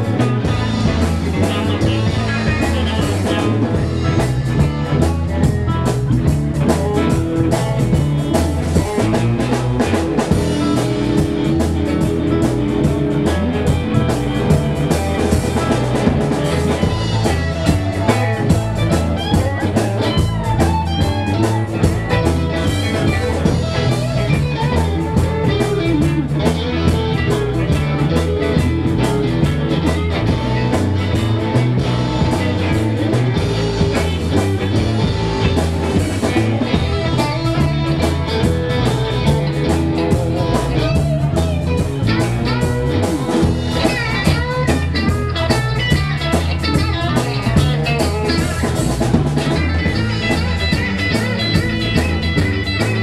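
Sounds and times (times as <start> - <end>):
blues-rock band playing: 0.0 - 53.0.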